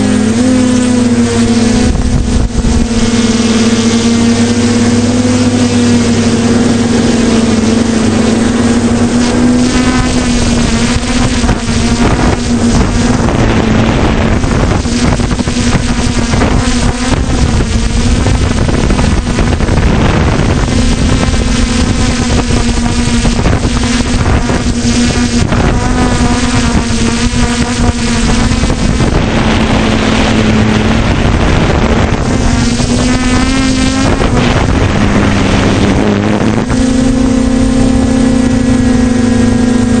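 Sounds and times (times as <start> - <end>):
drone propellers humming: 0.0 - 40.0
wind rushing over microphone: 0.0 - 40.0.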